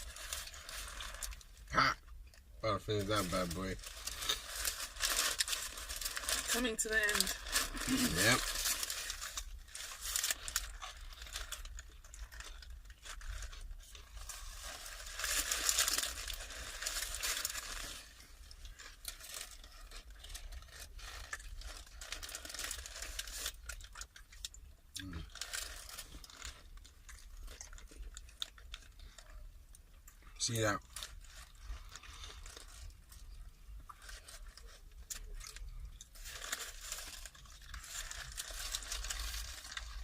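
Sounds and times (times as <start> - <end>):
chewing and crunching: 0.0 - 40.0
wrapper crinkling and tearing: 0.0 - 40.0.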